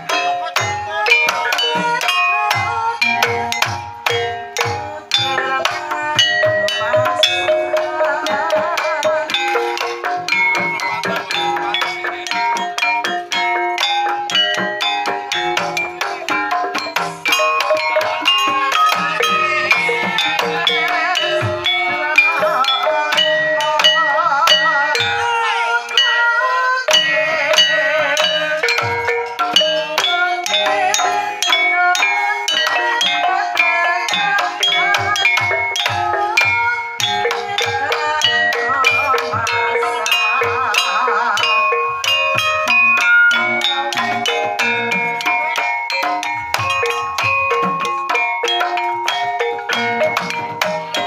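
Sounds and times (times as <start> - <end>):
gamelan metal keys ringing: 0.0 - 51.0
wavering sliding melodic line: 0.0 - 51.0.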